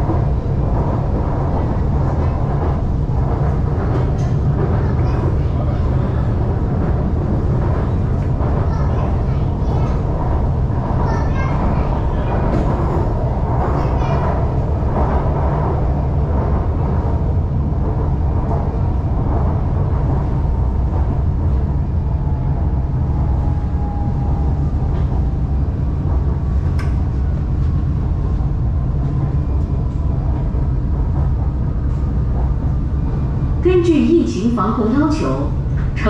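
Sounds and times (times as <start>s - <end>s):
train rumbling with faint whine: 0.0s - 36.0s.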